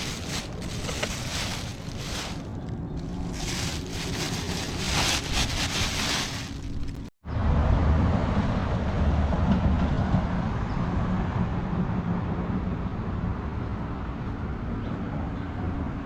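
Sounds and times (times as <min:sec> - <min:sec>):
engine rumbling and humming: 0:00.0 - 0:16.0.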